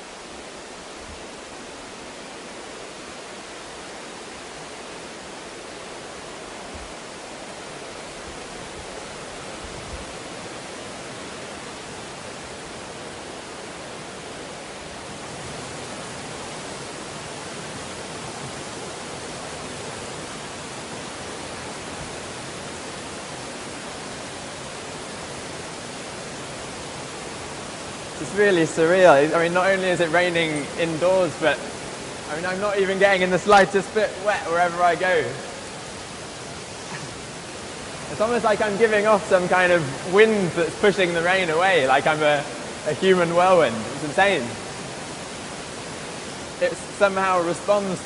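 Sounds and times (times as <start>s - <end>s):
artificial rain hissing: 0.0s - 48.0s.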